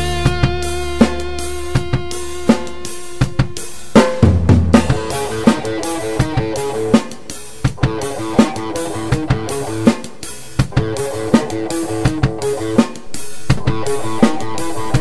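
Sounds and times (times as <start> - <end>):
drum kit hits: 0.0 - 15.0
rock band music: 0.0 - 15.0.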